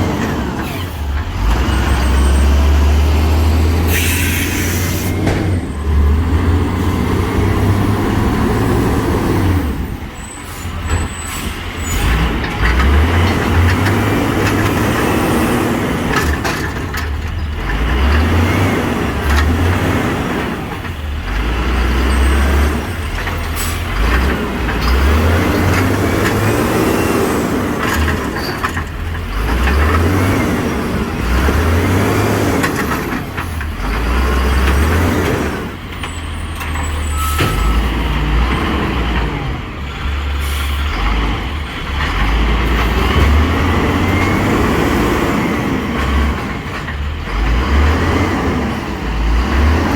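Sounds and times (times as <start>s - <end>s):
garbage truck engine revving: 0.0s - 49.9s.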